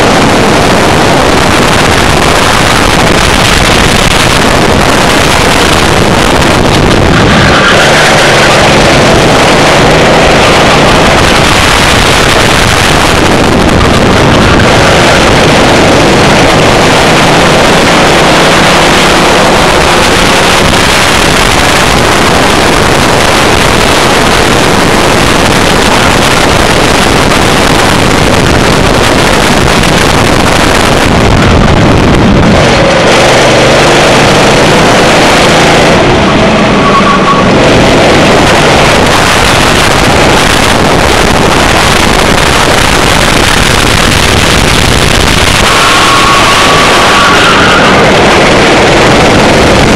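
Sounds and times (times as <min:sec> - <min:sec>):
kart engine running: 0:00.0 - 0:49.9
wind buffeting microphone: 0:00.0 - 0:49.9.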